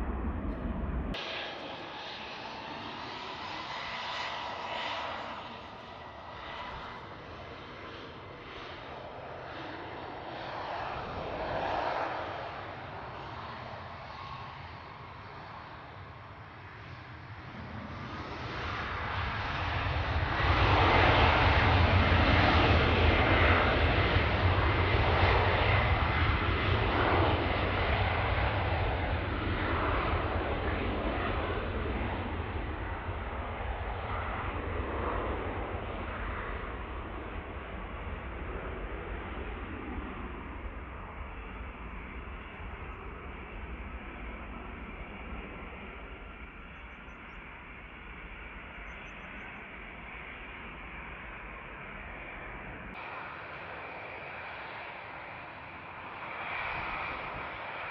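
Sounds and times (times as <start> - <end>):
jet engine high whine: 0.0 - 57.9
jet engine roar: 0.0 - 57.9.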